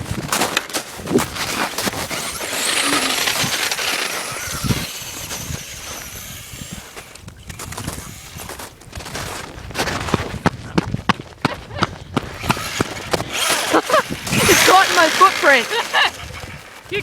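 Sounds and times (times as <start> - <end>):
remote-control truck driving: 0.6 - 10.3, 12.2 - 17.0.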